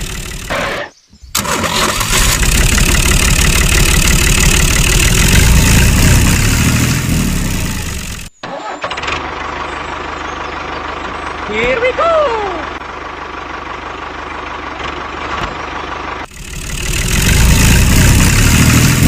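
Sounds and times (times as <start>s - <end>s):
small engine running roughly: 0.0s - 0.8s, 1.4s - 8.3s, 9.2s - 19.0s.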